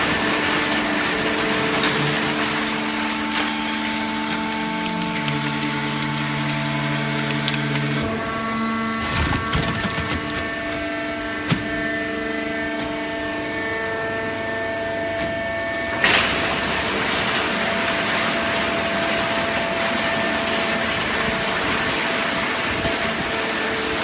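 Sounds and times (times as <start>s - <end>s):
hydraulic press humming and whining: 0.0s - 24.0s.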